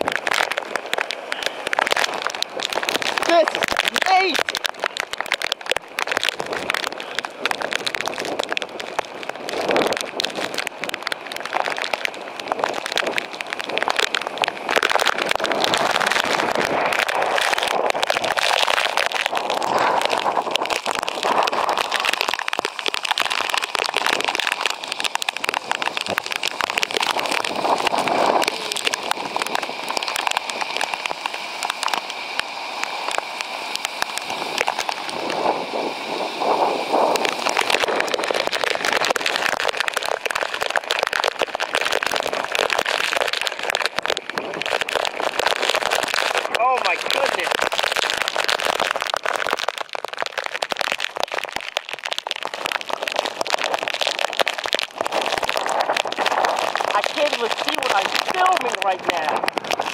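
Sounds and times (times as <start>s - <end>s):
heavy rain on pavement: 0.0s - 59.9s
storm wind: 0.0s - 59.9s.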